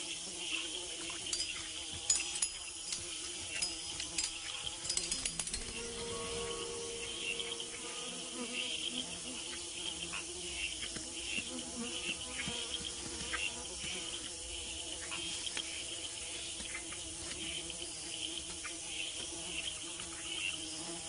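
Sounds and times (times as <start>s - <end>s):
insects chirping and buzzing: 0.0s - 21.0s.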